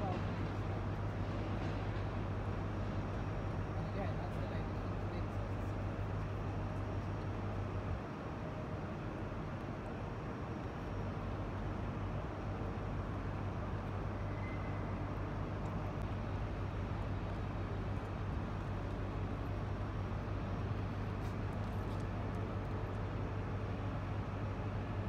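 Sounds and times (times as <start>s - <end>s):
train low hum: 0.0s - 25.0s.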